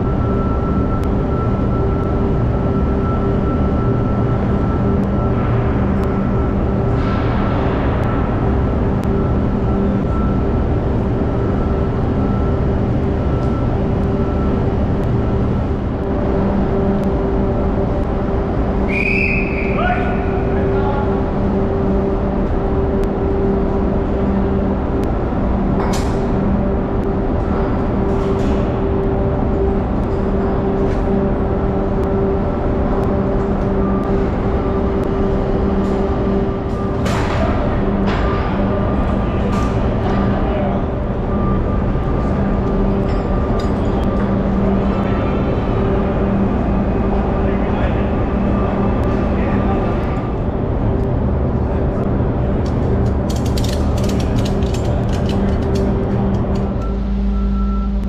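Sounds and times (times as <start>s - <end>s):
loud machinery drone: 0.0s - 58.0s.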